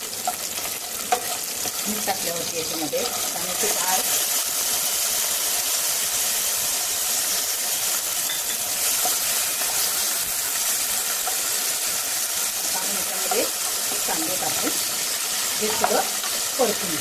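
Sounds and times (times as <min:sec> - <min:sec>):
lentils frying in hot oil: 0:00.0 - 0:17.0.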